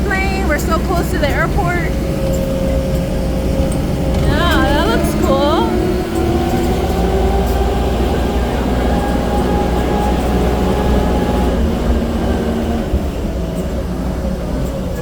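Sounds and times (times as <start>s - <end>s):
humming tones: 0.0s - 15.0s
tram engine droning: 0.0s - 15.0s.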